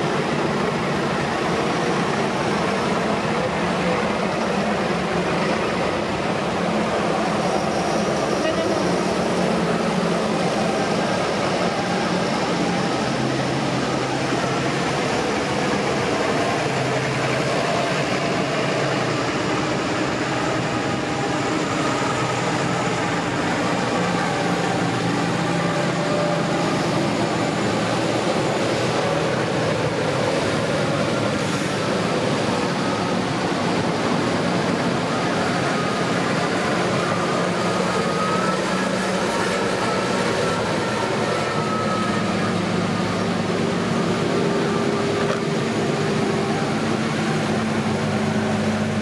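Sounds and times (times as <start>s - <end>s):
tractors driving past: 0.0s - 49.0s.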